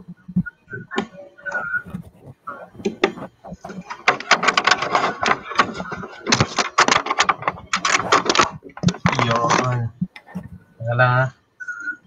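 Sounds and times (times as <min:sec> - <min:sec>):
microphone handling noise: 0:00.0 - 0:10.7.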